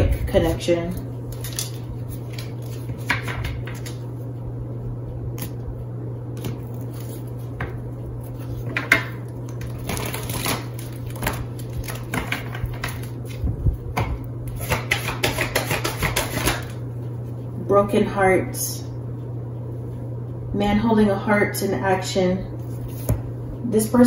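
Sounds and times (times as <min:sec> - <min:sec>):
low hum: 0:00.0 - 0:14.8, 0:16.6 - 0:24.0.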